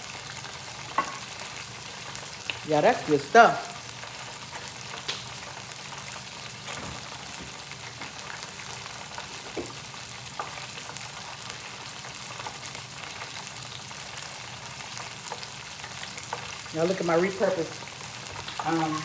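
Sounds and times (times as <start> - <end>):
oil sizzling in deep fryer: 0.0 - 19.0
small crackles and pops: 0.4 - 2.7, 3.7 - 19.0.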